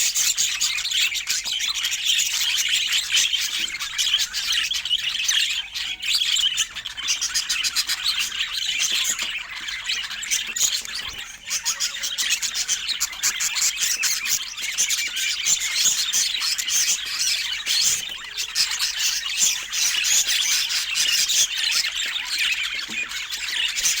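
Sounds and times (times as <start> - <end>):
budgerigars chattering: 0.0 - 24.0.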